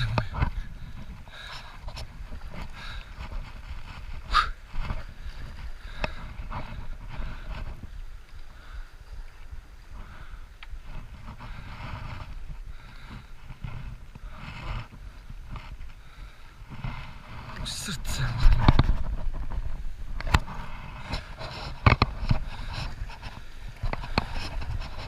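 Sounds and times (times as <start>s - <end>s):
boat-side handling noises: 0.0s - 25.0s.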